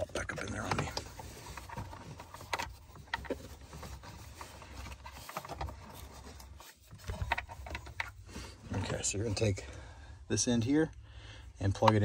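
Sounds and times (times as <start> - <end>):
hand rustling against plastic panels: 0.0 - 9.6.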